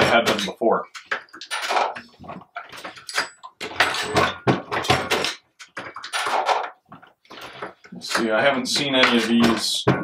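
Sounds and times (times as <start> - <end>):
reloading press clanking and rattling: 0.0 - 10.0.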